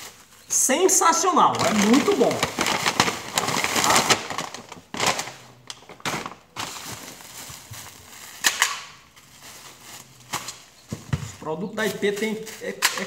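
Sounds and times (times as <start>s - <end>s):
plastic packets crinkling: 0.0s - 11.2s, 11.8s - 13.0s.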